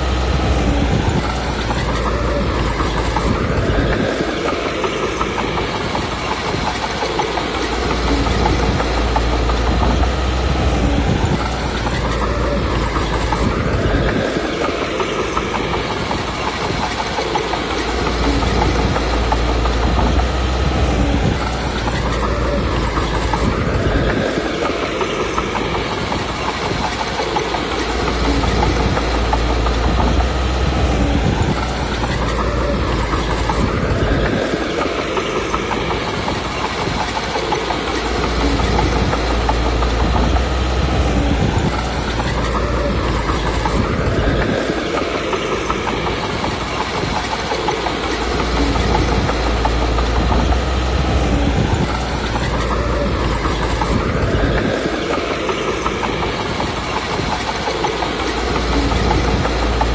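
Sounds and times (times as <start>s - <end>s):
bulldozer diesel engine working: 0.0s - 59.9s
mechanical clatter: 0.0s - 59.9s.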